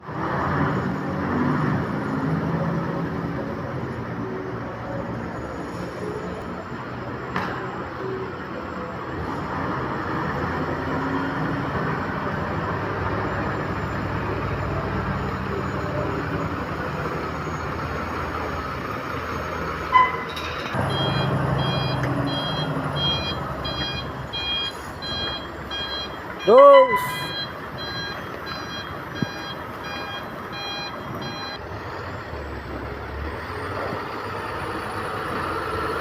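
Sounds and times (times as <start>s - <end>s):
vehicle engine and traffic: 0.0s - 36.0s.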